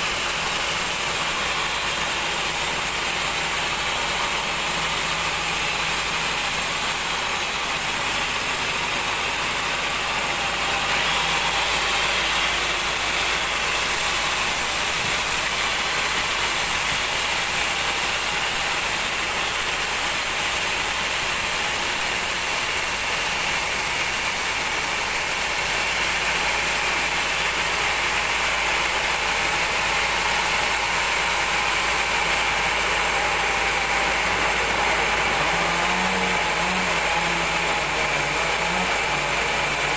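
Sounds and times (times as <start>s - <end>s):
band saw cutting through log: 0.0s - 39.9s.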